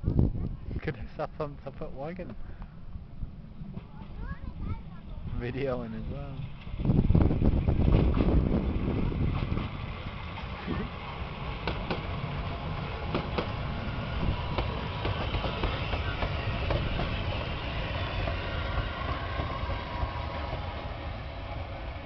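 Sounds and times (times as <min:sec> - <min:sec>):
steam locomotive rolling past: 0:02.1 - 0:22.0
wheels clanking on rails: 0:03.6 - 0:21.8.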